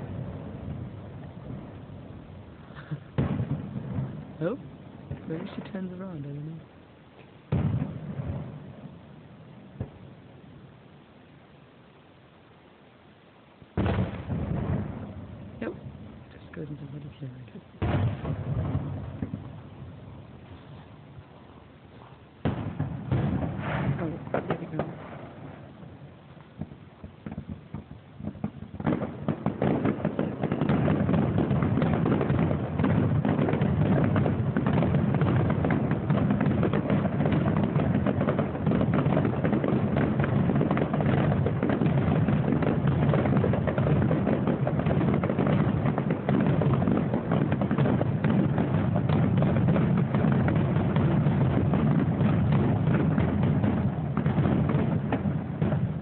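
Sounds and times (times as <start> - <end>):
fireworks bursting: 0.0 - 12.6, 13.5 - 56.0.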